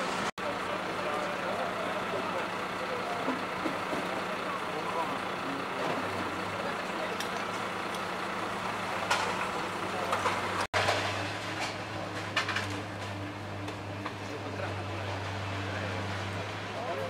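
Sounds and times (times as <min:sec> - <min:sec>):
heavy vehicle engine humming: 0:00.0 - 0:17.0.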